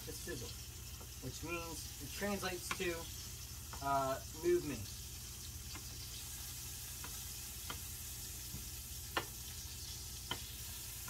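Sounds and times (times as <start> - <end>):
food sizzling in a pan: 0.0 - 11.0
sharp frying pops: 0.0 - 11.0.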